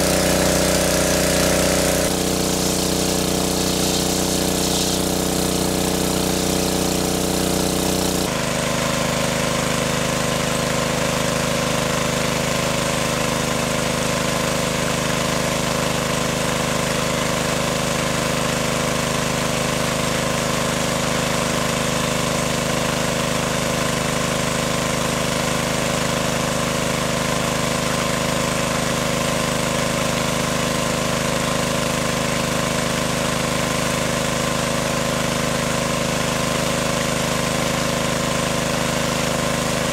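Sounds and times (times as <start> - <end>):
engine-driven water pump running: 0.0 - 39.9.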